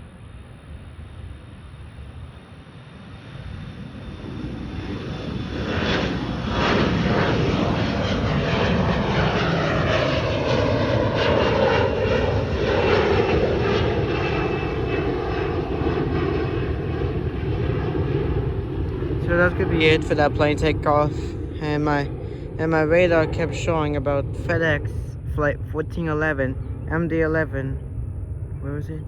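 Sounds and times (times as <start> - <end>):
jet engines at takeoff: 0.0 - 29.0.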